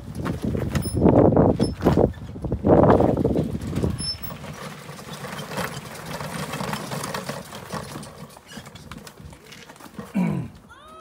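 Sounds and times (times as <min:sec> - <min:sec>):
bike clicking and rattling: 0:00.0 - 0:10.7.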